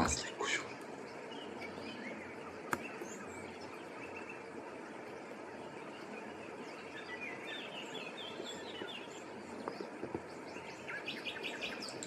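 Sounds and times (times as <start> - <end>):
birds calling: 0.0 - 12.0
steady background hiss: 0.0 - 12.0.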